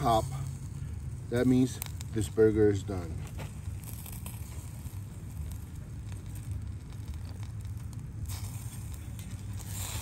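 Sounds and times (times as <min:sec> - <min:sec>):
low steady stove rumble: 0:00.0 - 0:10.0
wood fire crackling: 0:00.0 - 0:10.0.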